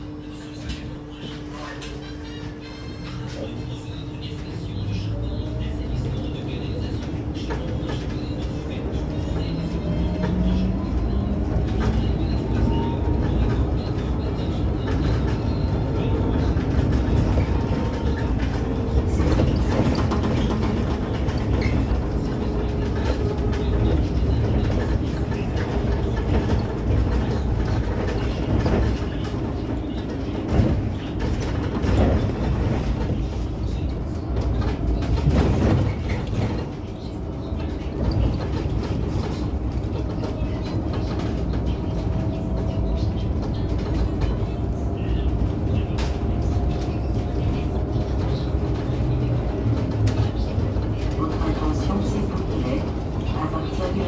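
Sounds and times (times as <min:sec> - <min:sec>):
bus road rumble: 0:00.0 - 0:54.0.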